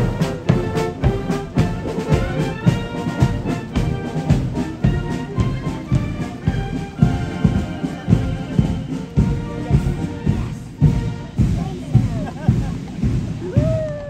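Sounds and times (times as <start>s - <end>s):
brass marching band playing: 0.0s - 13.8s
bass drum beat: 0.0s - 14.0s.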